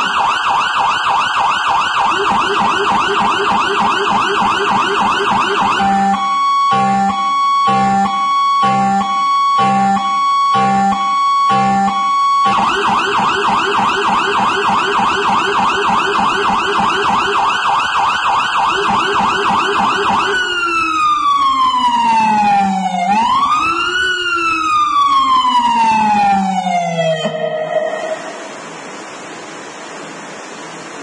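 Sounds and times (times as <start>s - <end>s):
electronic siren yelping and wailing: 0.0s - 29.1s
deep low-frequency siren tone: 0.0s - 29.2s.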